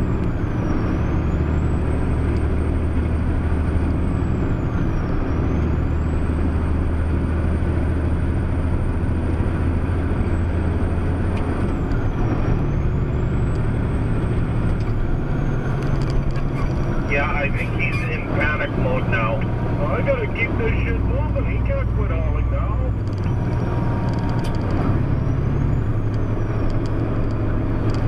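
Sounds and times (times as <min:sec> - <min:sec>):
road noise: 0:00.0 - 0:28.0
truck engine running: 0:00.0 - 0:28.0.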